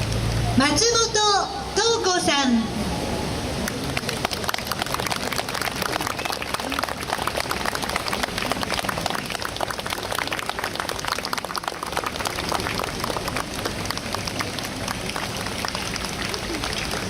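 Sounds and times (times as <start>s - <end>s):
crowd applause: 3.0s - 17.0s.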